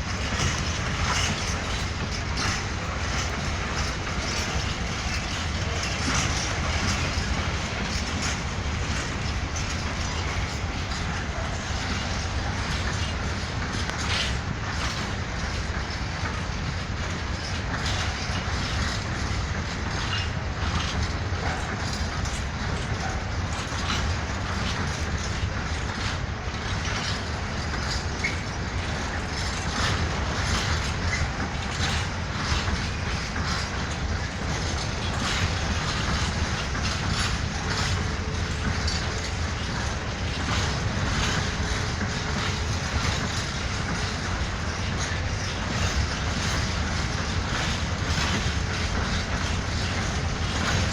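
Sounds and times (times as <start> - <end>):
freight train rumbling: 0.0 - 50.9
wheels clicking over rails: 0.0 - 50.9.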